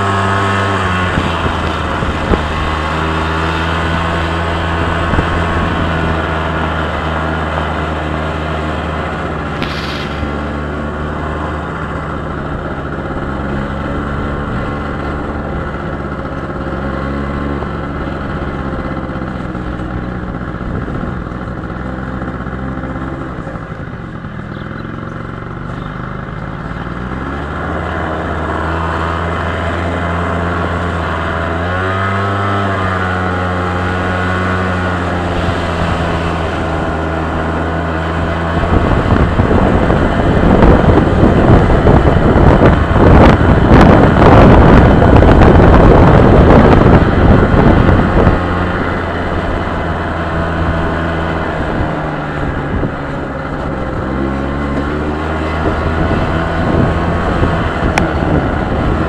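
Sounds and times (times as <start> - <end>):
road and wind noise: 0.0 - 59.0
vehicle engine running: 0.0 - 59.0.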